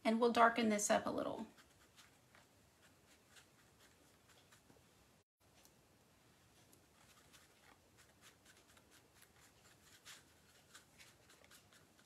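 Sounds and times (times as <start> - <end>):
paintbrush dabbing and stroking: 1.2 - 5.6, 6.4 - 12.0.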